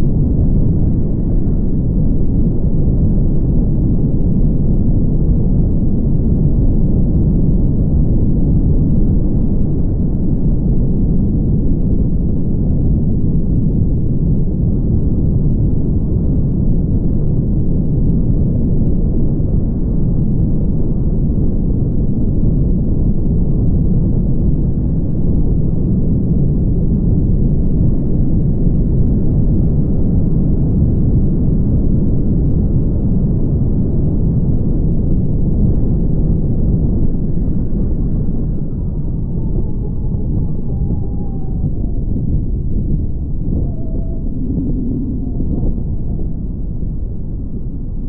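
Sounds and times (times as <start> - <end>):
car road and wind noise: 0.0 - 48.0.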